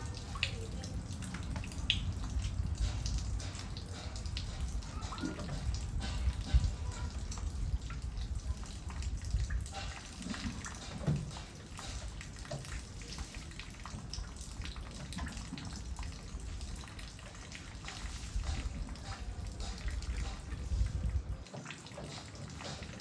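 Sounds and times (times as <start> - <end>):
running water splashing: 0.0 - 23.0
water dripping: 0.0 - 23.0.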